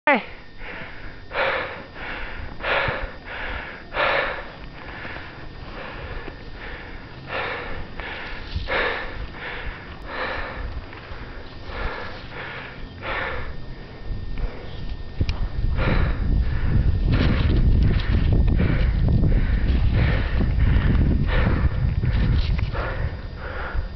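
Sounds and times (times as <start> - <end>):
heavy rapid breathing: 0.2 - 23.9.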